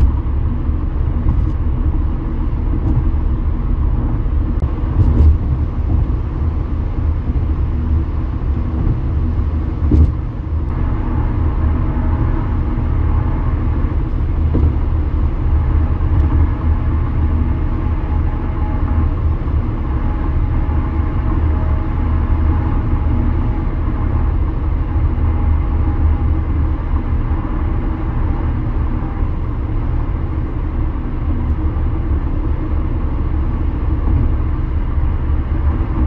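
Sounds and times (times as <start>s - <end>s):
road and tyre rumble: 0.0s - 36.0s.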